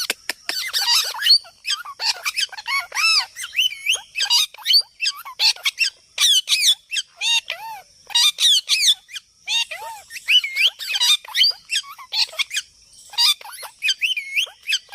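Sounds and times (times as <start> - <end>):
parrot squawking and chattering: 0.0 - 14.9.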